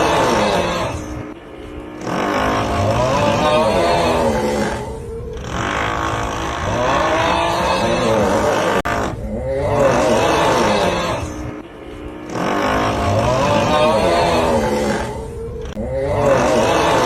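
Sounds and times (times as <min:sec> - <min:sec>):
groaning snore: 0:00.0 - 0:11.6, 0:12.2 - 0:17.0.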